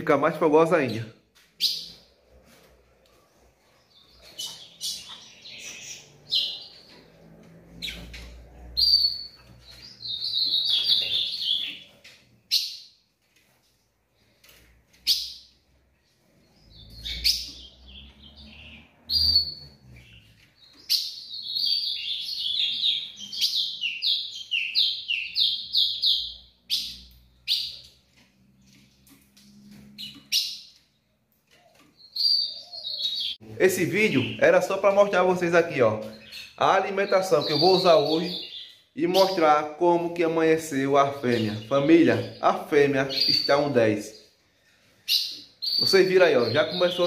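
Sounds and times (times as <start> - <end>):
bird chirping: 0.0 - 47.0.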